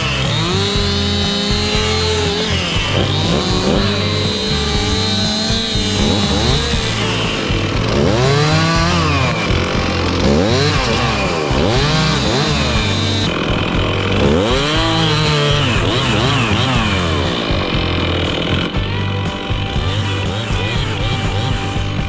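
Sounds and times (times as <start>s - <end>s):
chainsaw revving through wood: 0.0s - 22.0s.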